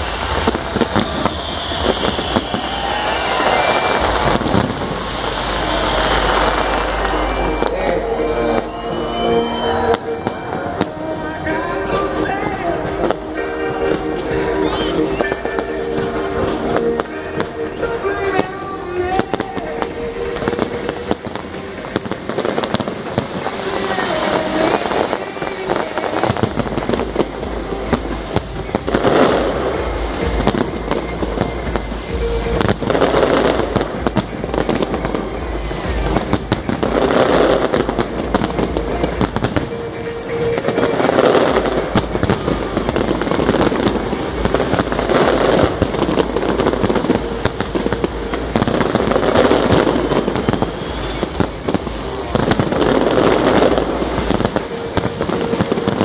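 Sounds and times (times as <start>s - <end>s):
fireworks bangs and crackles: 0.0s - 9.0s, 9.6s - 56.0s
music playing: 0.0s - 56.0s.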